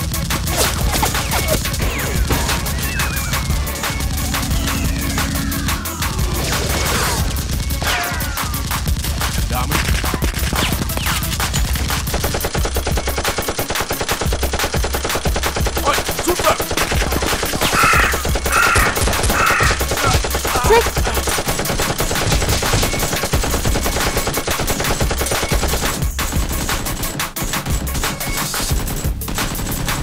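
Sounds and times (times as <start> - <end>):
machine-gun fire: 0.2 - 30.0.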